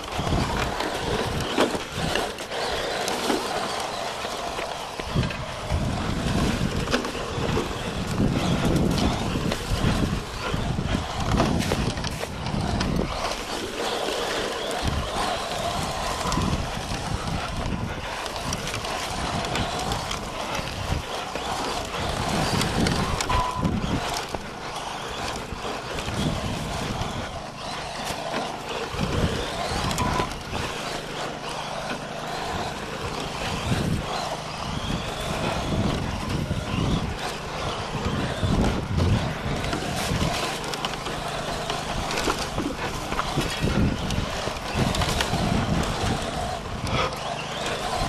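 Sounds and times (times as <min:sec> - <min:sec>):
tyres crunching over gravel: 0:00.0 - 0:48.0.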